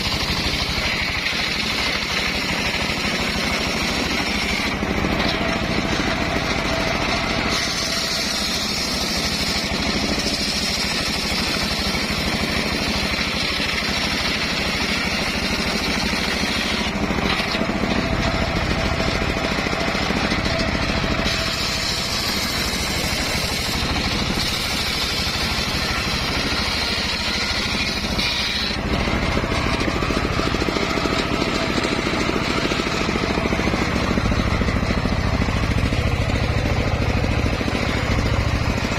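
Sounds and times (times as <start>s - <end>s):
saw blade whining through log: 0.0s - 38.9s
sawmill engine drone: 0.0s - 38.9s.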